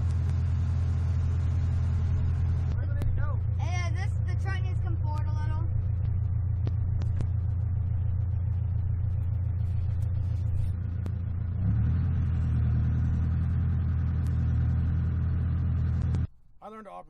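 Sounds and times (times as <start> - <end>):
engine running and revving: 0.0 - 16.3.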